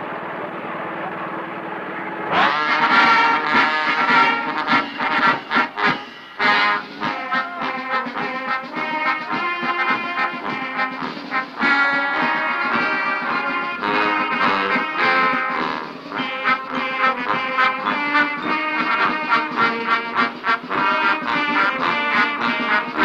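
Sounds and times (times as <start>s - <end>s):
brass-led background music: 2.3s - 23.0s.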